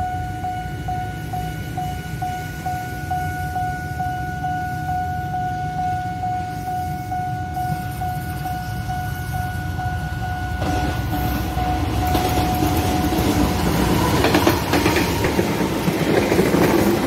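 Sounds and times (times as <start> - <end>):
level crossing alarm pulsing: 0.0 - 16.4
low rumble of engines: 0.0 - 17.0.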